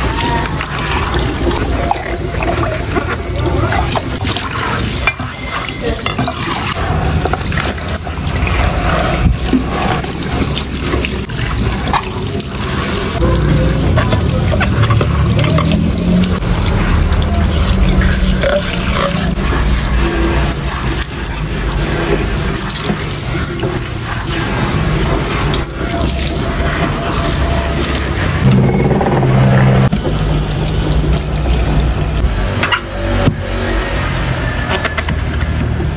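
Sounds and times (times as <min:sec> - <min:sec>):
tap water spraying into sink: 0:00.0 - 0:28.4, 0:29.9 - 0:33.4.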